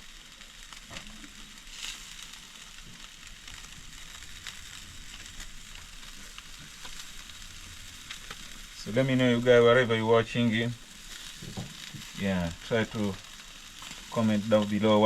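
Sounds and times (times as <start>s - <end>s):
fire pops and crackles: 0.0s - 15.0s
meat sizzling on a grill: 0.0s - 15.0s.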